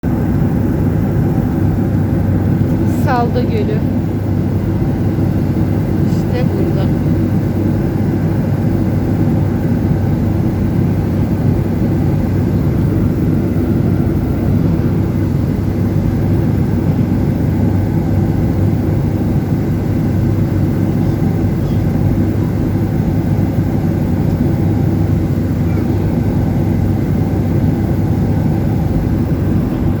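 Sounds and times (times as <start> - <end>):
airplane cabin engine drone: 0.0 - 30.0.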